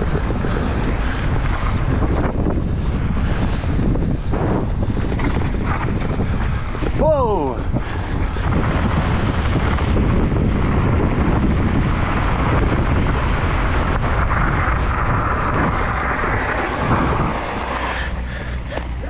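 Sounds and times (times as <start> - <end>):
bike tyre rumble on dirt: 0.0 - 19.0
wind rushing over microphone: 0.0 - 19.0.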